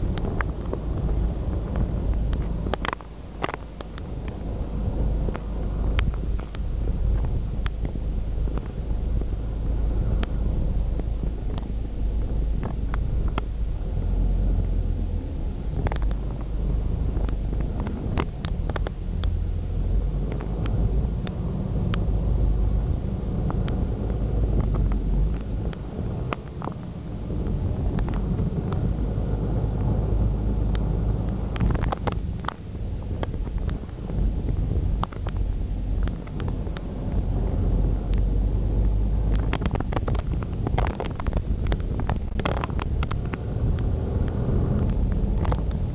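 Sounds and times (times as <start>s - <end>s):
car road and engine rumble: 0.0s - 45.9s
wind buffeting microphone: 0.0s - 45.9s.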